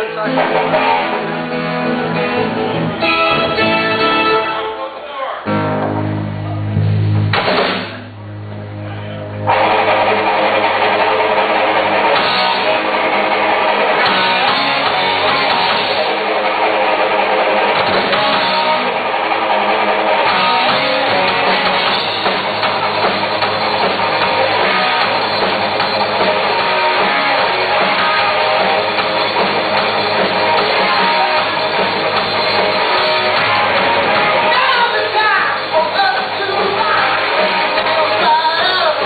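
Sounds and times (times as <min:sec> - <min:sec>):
distorted electric guitar: 0:00.0 - 0:39.0
drums: 0:00.0 - 0:39.0
rock band playing live: 0:00.0 - 0:39.0.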